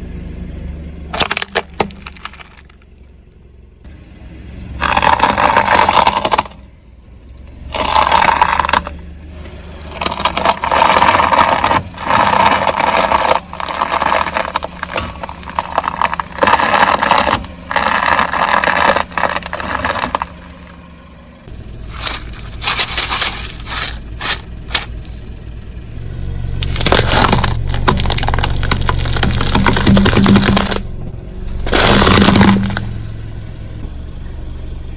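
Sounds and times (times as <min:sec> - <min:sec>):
car engine hum: 0:00.0 - 0:34.9
car tyre crunching brittle objects: 0:01.1 - 0:03.4, 0:04.7 - 0:06.8, 0:07.5 - 0:34.8.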